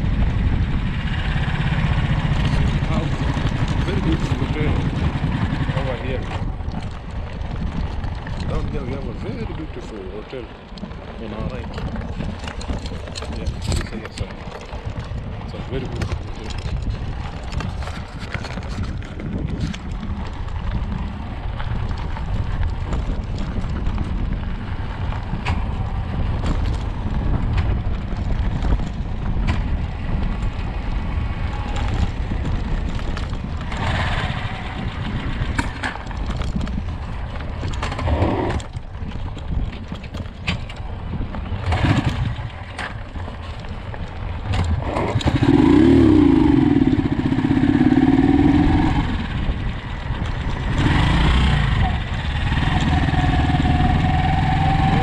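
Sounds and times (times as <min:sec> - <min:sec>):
vehicle engine running: 0:00.0 - 0:55.0
wind on microphone: 0:00.0 - 0:55.0.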